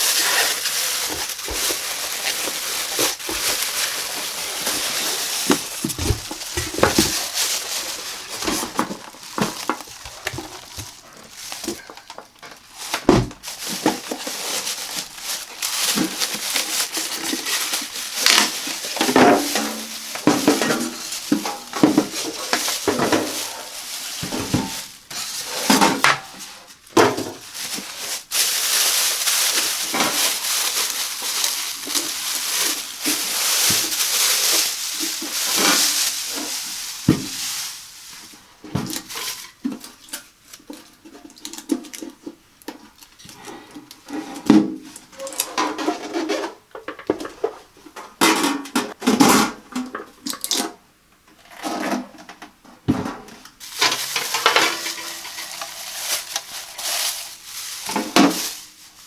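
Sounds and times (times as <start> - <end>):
packaging rustling and crinkling: 0.0 - 44.2, 53.6 - 59.0.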